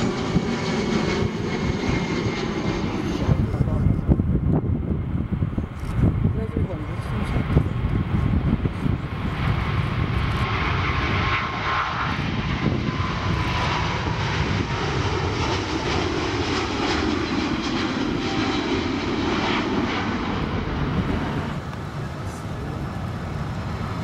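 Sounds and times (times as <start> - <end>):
jet airliner engines roaring: 0.0 - 24.0
wind buffeting microphone: 0.0 - 24.0.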